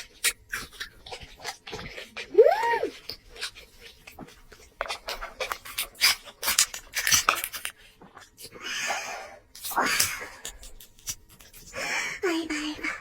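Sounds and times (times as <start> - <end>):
wet chewing and mouth smacking: 0.0 - 8.8, 9.5 - 11.8.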